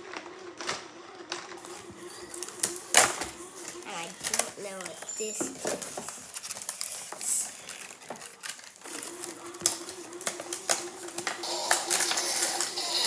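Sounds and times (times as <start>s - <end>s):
plastic packaging clicks and crinkles: 0.0s - 13.0s.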